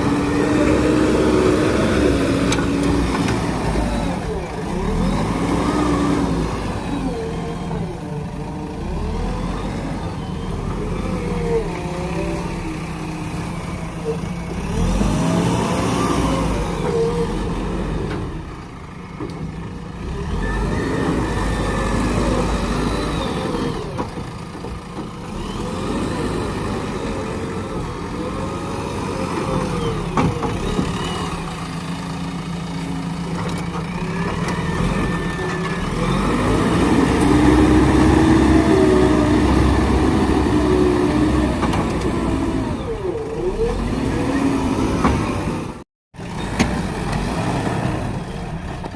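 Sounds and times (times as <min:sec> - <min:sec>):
diesel engine under hydraulic load: 0:00.0 - 0:48.9.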